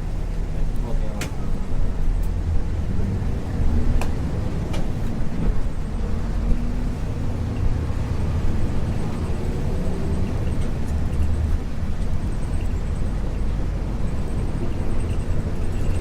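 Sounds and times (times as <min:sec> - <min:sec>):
diesel engine running: 0:00.0 - 0:16.0
road noise rumble: 0:00.0 - 0:16.0.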